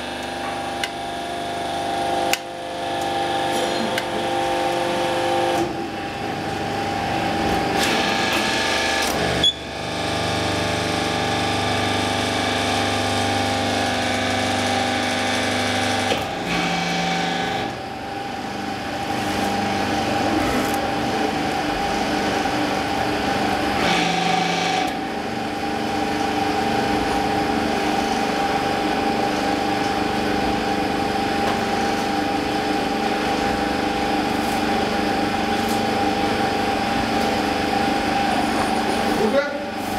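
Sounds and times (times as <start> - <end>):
hydraulic pump humming with whine: 0.0 - 39.9.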